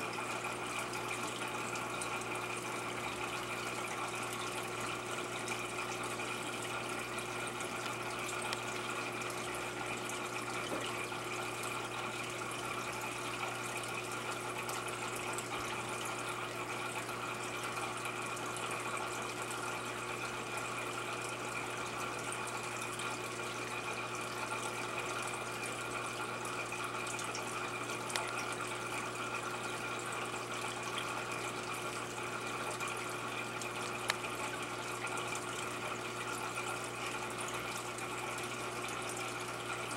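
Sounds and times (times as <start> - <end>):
water trickling and splashing: 0.1 - 39.9.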